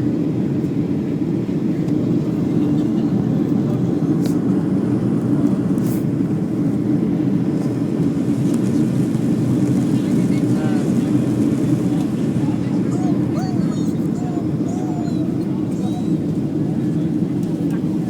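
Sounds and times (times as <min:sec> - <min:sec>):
engine and airflow rush in cabin: 0:00.0 - 0:18.0.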